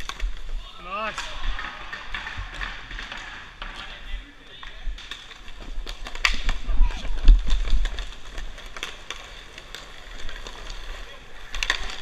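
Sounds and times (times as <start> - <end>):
hockey sticks and puck clacking: 0.0 - 12.0
skate wheels rolling: 0.0 - 12.0.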